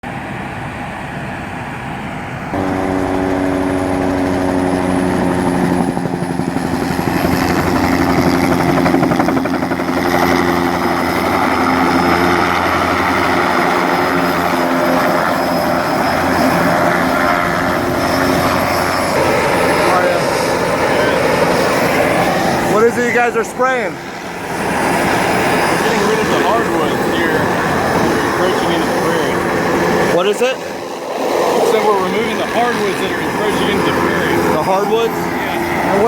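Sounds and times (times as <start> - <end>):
helicopter rotor chop and engine drone: 0.0 - 36.0.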